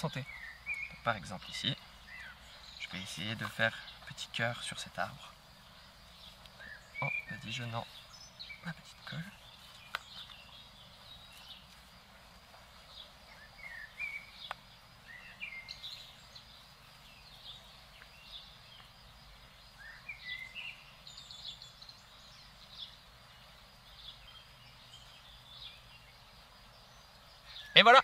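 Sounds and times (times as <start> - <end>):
faint outdoor hiss: 0.0 - 28.0
songbirds chirping: 0.0 - 28.0.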